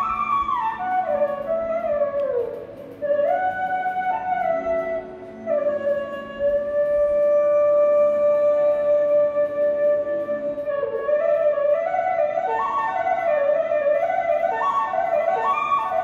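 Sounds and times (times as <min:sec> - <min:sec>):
single-line background melody: 0:00.0 - 0:16.0.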